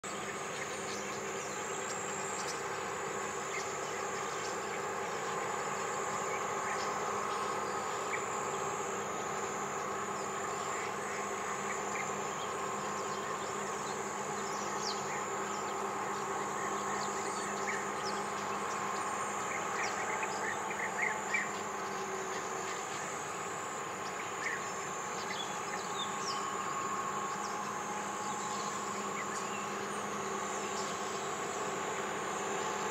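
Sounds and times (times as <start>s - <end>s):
steady buzzing drone: 0.0s - 32.9s.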